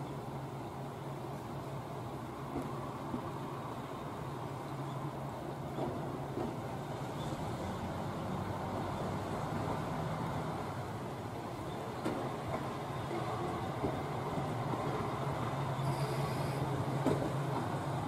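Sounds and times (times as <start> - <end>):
diesel railcar engine humming: 0.0 - 18.0.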